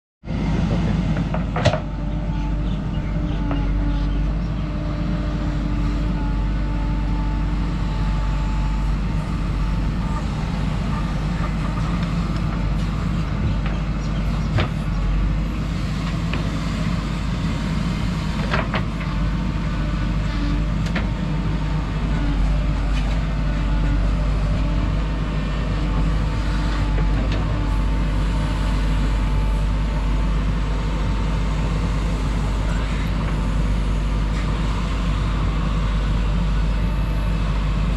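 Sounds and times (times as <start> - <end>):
backhoe diesel engine running: 0.2 - 37.9.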